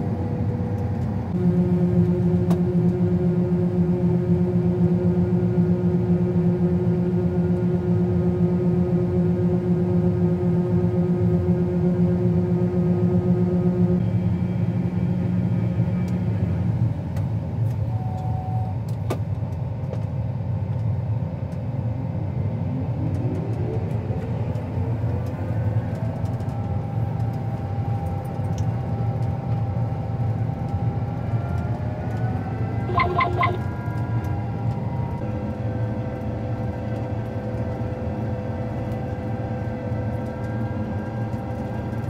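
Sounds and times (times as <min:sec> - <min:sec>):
vehicle engine running: 0:00.0 - 0:18.2, 0:18.8 - 0:42.0
rising whine: 0:00.0 - 0:18.7, 0:21.8 - 0:42.0.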